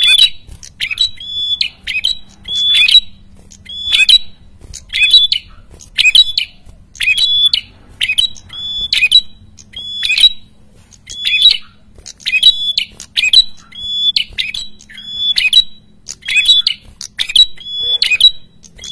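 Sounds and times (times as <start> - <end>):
bird chattering calls: 0.0 - 18.9.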